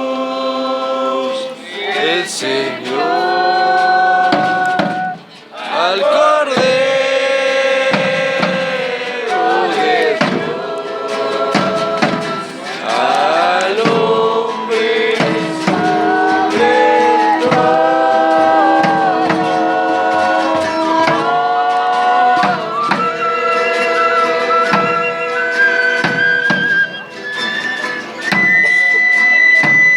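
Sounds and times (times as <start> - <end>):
music with singing voices: 0.0 - 29.9.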